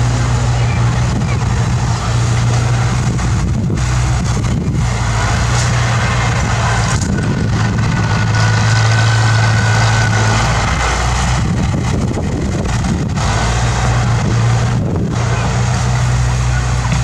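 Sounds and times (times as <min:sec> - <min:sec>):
bulldozer diesel engine: 0:00.0 - 0:17.0.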